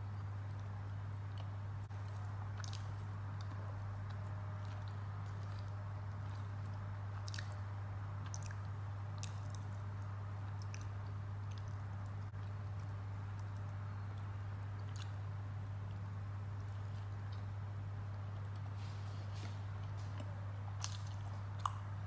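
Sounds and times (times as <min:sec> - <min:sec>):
steady low hum: 0:00.0 - 0:22.0
person chewing food: 0:00.4 - 0:22.0.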